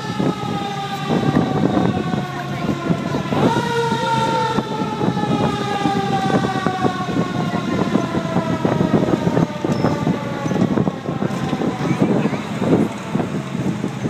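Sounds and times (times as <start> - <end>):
fire truck siren winding down: 0.0 - 14.0
vehicle ride rumble: 0.0 - 14.0
wind: 0.0 - 14.0.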